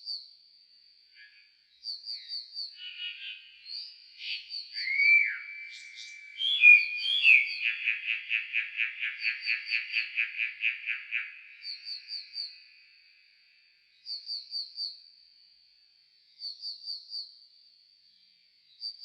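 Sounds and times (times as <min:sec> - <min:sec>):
slowed nightingale song: 0:00.0 - 0:15.1, 0:16.2 - 0:19.0.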